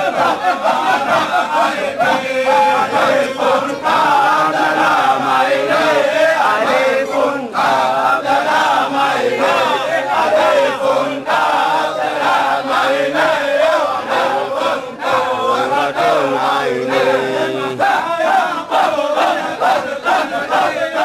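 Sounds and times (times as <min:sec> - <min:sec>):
men chanting together: 0:00.0 - 0:21.0.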